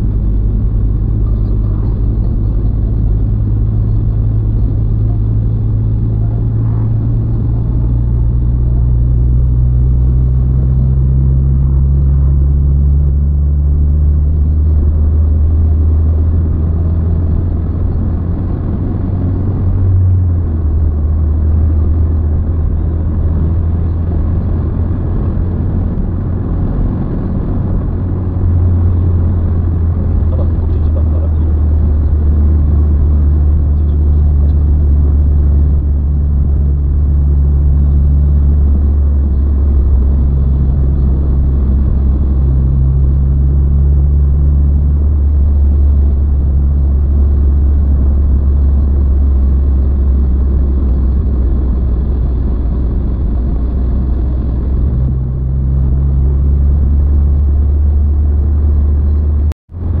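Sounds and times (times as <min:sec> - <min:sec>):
car engine and tyre rumble: 0:00.0 - 1:00.0
low hum: 0:00.0 - 1:00.0.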